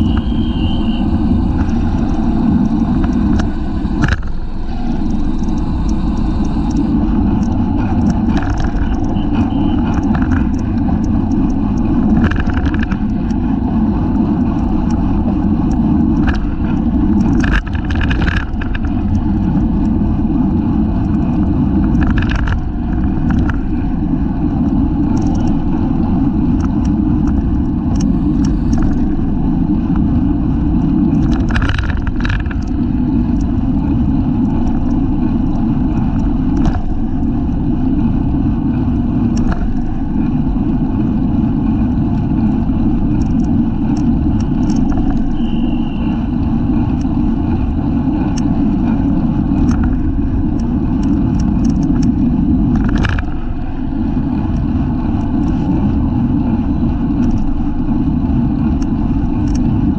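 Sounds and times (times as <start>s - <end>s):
bicycle ticks and rattles: 0.0s - 59.9s
wind buffeting microphone: 0.0s - 59.9s.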